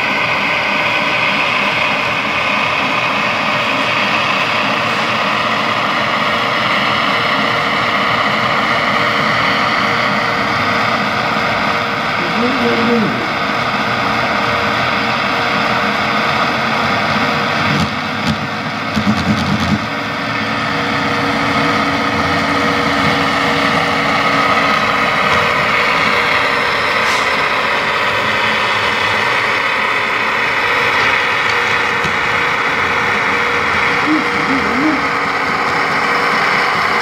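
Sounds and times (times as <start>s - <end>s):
diesel engine sound from small speaker: 0.0s - 37.0s.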